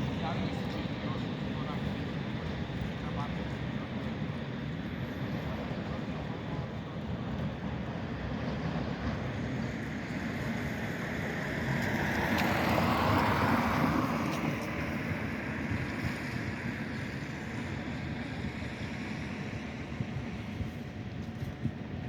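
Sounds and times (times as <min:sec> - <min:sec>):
tram rolling on rails: 0:00.0 - 0:22.0.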